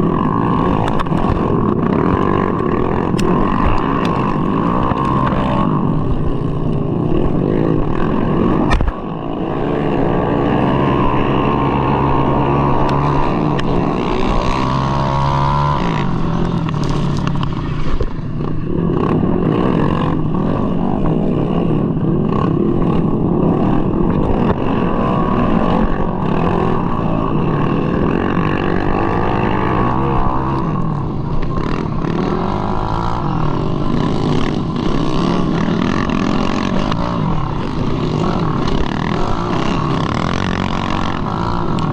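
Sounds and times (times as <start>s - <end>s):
scooter engine revving: 0.0s - 41.9s.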